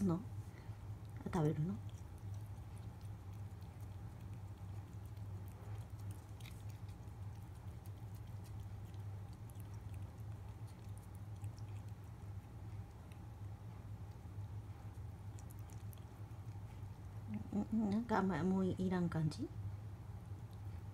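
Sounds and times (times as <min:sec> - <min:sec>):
low hum: 0:00.0 - 0:20.9
cat licking wet clicks: 0:00.6 - 0:17.5.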